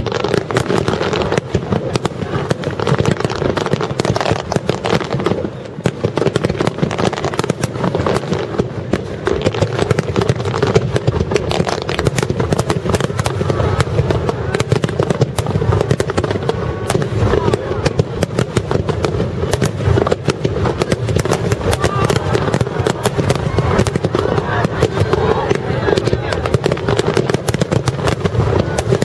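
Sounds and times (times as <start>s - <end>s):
fireworks bursting: 0.0s - 29.0s
fireworks crackling: 0.0s - 29.0s.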